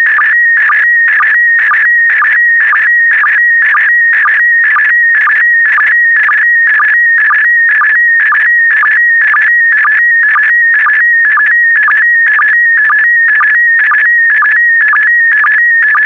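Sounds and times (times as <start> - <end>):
steady signal tone: 0.0 - 16.0.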